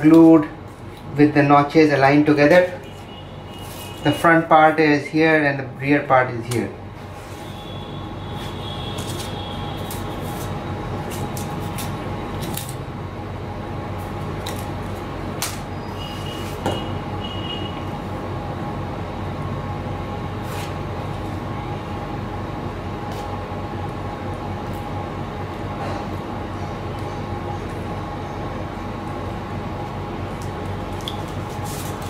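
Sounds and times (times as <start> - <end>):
low rumbling with hum: 0.0 - 32.0.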